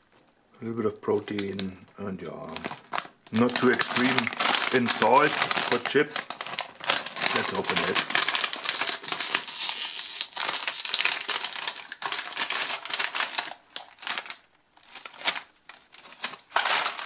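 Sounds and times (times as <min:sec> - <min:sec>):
crisp packet crinkling: 0:01.0 - 0:17.0.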